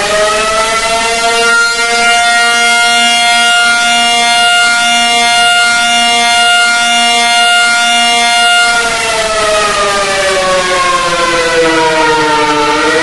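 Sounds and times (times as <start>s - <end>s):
emergency warning siren: 0.0s - 13.0s
pulsing lower note: 0.0s - 13.0s.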